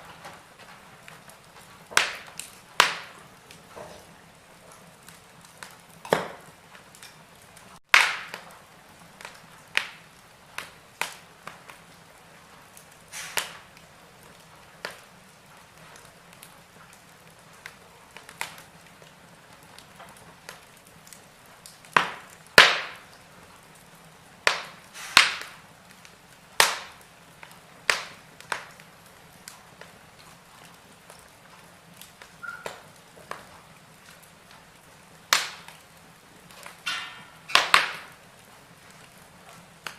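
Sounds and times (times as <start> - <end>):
faint steady hiss: 0.0 - 39.9
wood fire popping and snapping: 0.0 - 39.9.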